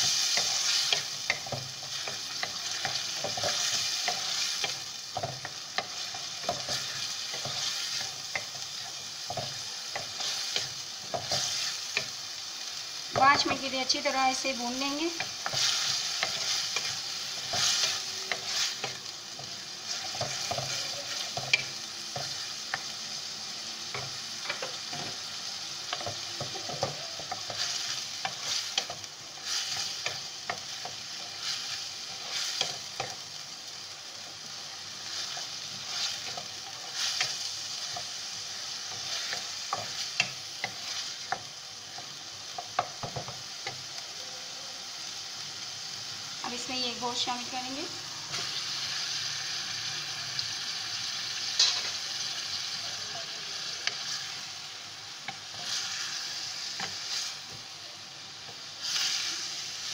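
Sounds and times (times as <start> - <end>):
onions sizzling in hot oil: 0.0 - 59.9.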